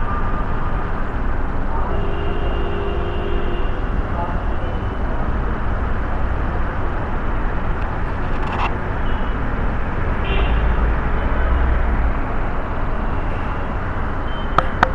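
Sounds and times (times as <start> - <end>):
street traffic rumble and hiss: 0.0 - 14.9.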